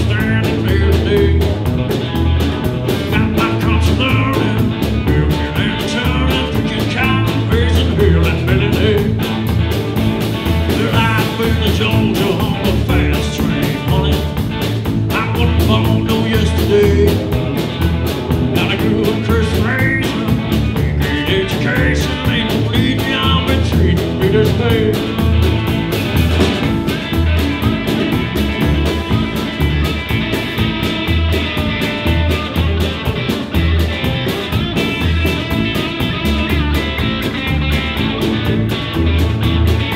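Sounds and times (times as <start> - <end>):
bass drum beat: 0.0 - 39.9
live band playing: 0.0 - 39.9.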